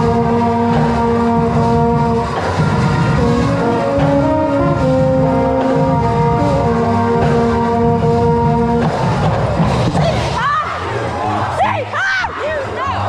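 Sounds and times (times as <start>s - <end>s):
marching drums: 0.0s - 10.6s
brass chords: 0.0s - 11.9s.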